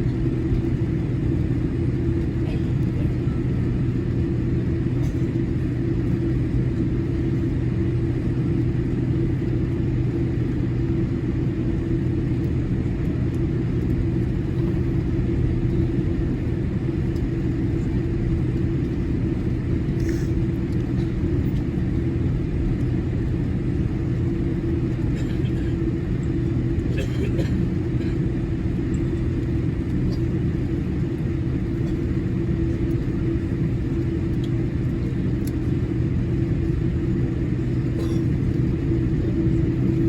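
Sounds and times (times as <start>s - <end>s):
airliner cabin rumble: 0.0s - 40.0s
low even hum: 0.0s - 40.0s.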